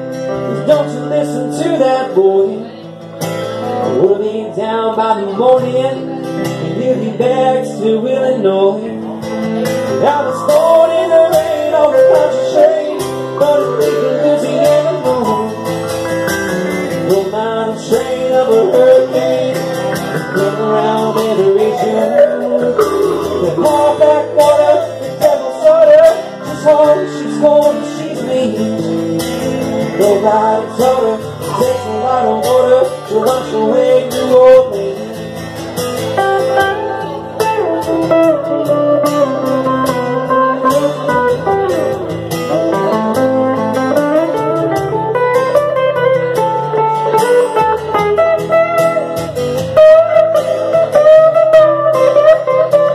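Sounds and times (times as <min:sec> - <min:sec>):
electric guitar lead with bent notes: 0:00.0 - 0:52.9
band accompaniment: 0:09.1 - 0:52.9.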